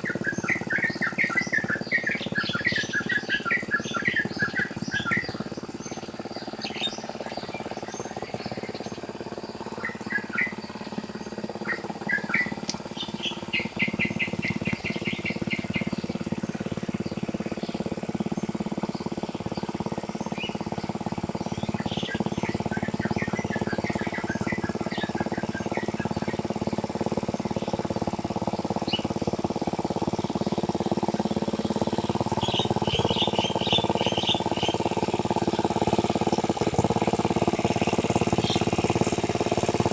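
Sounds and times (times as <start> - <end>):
small engine running: 0.0 - 39.9
small birds chirping and trilling: 0.1 - 39.9.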